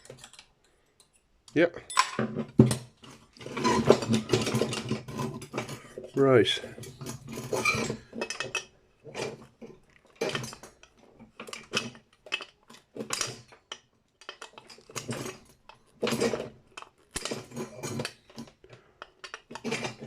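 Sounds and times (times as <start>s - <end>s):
metallic clinks and knocks: 0.0s - 20.0s.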